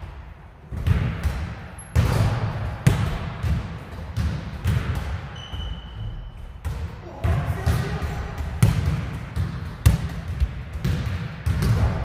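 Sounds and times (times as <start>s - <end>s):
basketball bouncing on hard court: 0.7s - 12.0s.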